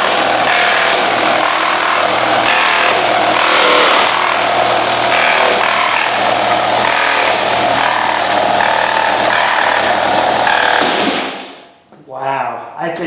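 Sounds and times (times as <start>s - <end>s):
reciprocating saw cutting wood: 0.0s - 11.6s.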